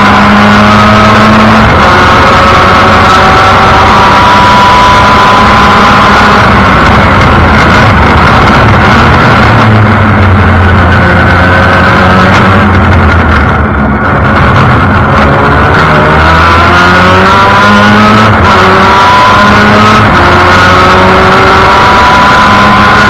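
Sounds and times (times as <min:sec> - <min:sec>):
race car engine revving: 0:00.0 - 0:23.0
rushing wind: 0:00.0 - 0:23.0.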